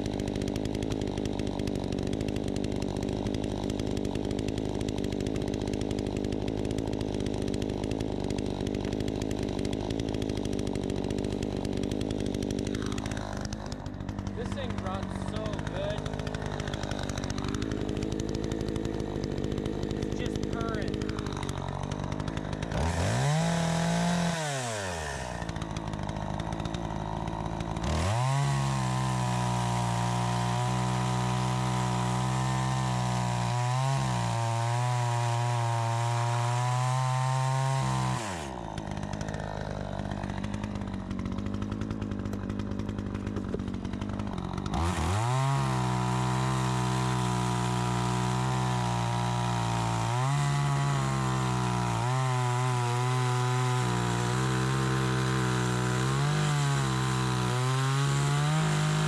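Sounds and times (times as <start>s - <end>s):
chainsaw revving and idling: 0.0s - 59.0s.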